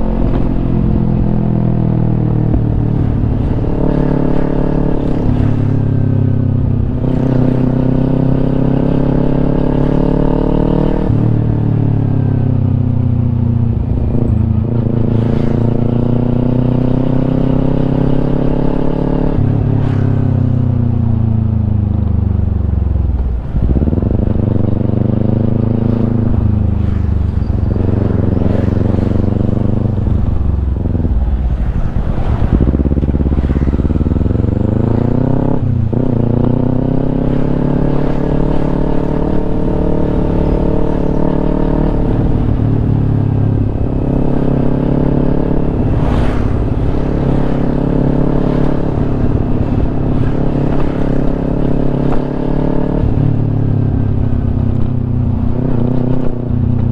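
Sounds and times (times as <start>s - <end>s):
motorcycle engine shifting gears: 0.0s - 56.9s.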